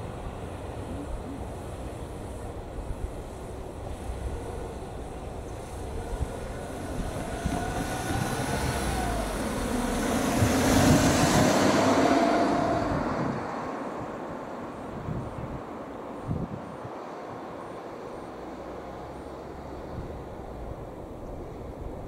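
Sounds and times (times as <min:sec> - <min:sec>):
diesel railcar passing: 0:00.0 - 0:22.0.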